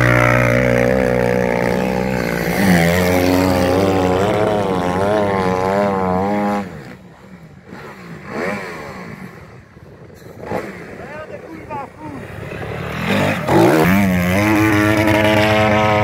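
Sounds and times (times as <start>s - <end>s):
faint engine revving: 0.0s - 16.0s
off-road vehicle engine: 0.0s - 16.0s.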